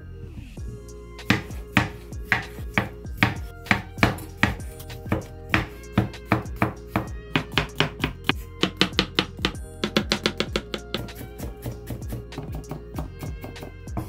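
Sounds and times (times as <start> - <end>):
knife chopping on cutting board: 1.3 - 12.8.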